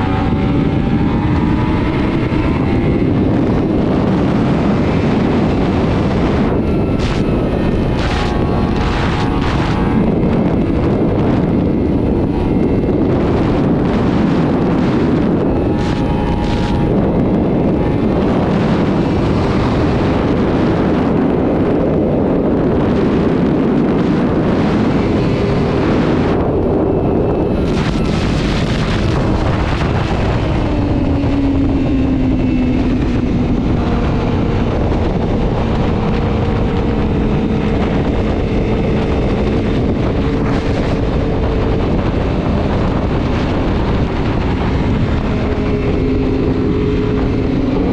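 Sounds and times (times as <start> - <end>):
motorcycle engine at speed: 0.0 - 47.9
wind rushing on microphone: 0.0 - 47.9.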